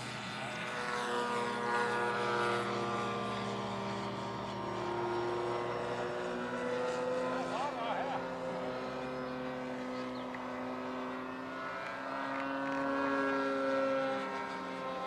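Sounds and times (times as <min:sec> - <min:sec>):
model aeroplane engine: 0:00.0 - 0:15.0.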